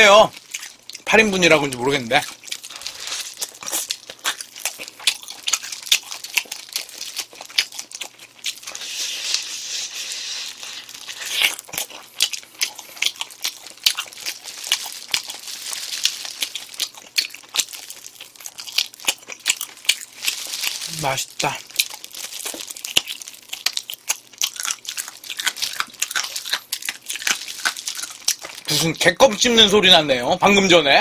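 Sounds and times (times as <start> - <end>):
wet crunching of bones: 0.0 - 8.8, 10.5 - 29.2
plastic gloves crinkling: 0.0 - 29.7.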